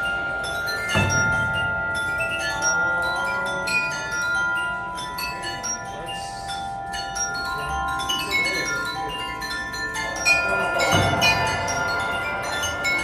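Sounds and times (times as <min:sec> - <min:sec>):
bell-like chimes: 0:00.0 - 0:13.0.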